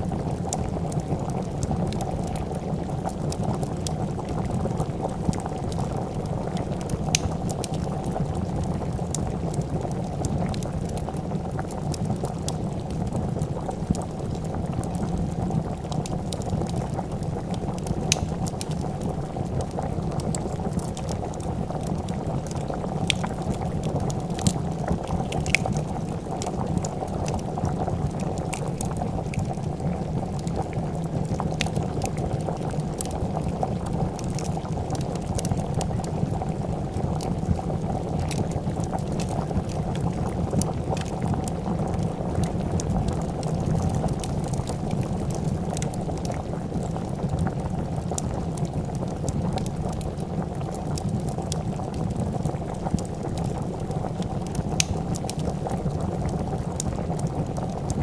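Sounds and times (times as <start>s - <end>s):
soup bubbling in a pot: 0.0s - 58.0s
wood fire crackling and popping: 0.0s - 58.0s.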